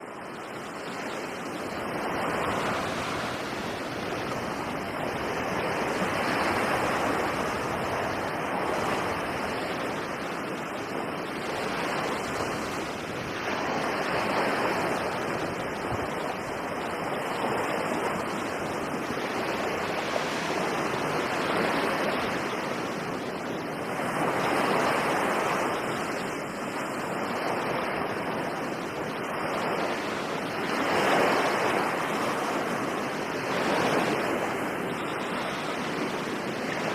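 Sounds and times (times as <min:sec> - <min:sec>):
sea surf washing in: 0:00.0 - 0:36.9.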